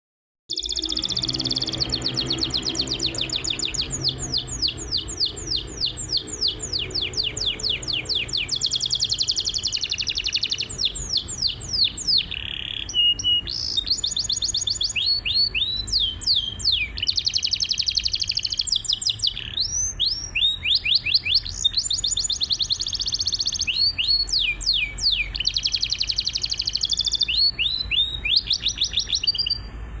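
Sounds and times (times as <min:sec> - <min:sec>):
canary singing trills: 0:00.5 - 0:30.0.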